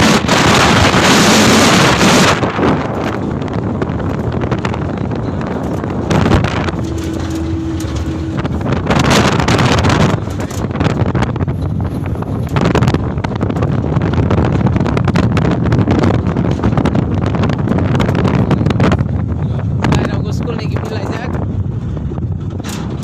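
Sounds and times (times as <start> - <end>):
truck engine and road noise: 0.0 - 23.0
wind buffeting microphone: 0.0 - 23.0
steady low tone: 2.5 - 23.0.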